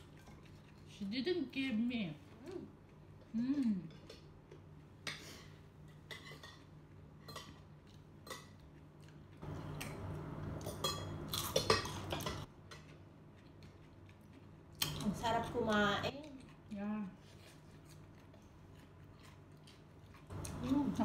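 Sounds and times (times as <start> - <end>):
crunching of eating: 2.6 - 21.0.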